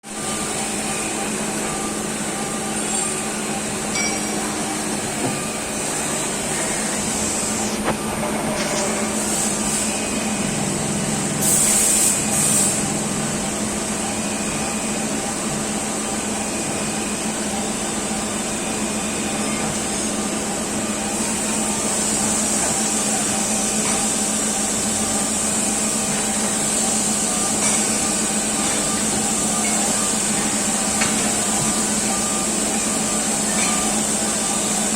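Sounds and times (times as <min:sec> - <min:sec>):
lathe humming with high whine: 0:00.0 - 0:34.9.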